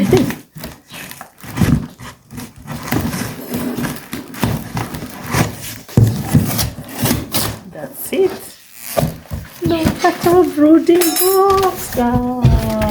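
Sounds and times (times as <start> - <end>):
knocks and rubbing on a box: 0.0 - 8.4, 9.0 - 10.8, 11.5 - 12.9.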